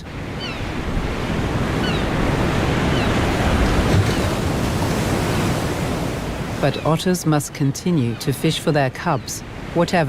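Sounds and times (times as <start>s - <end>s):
waves breaking on rocky coast: 0.0s - 10.0s
wind: 0.0s - 10.0s.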